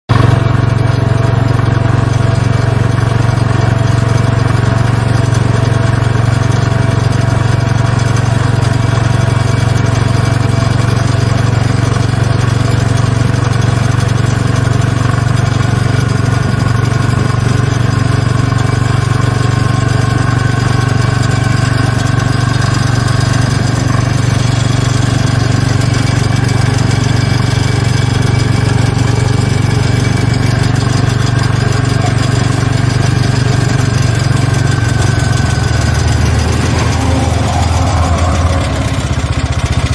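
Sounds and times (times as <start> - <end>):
quad bike engine running: 0.1 - 39.9.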